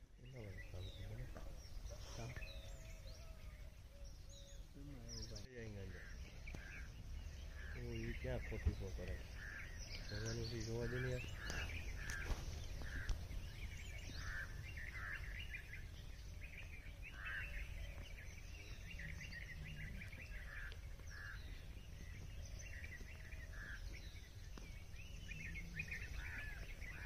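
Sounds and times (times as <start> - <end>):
birds calling: 0.0 - 27.0.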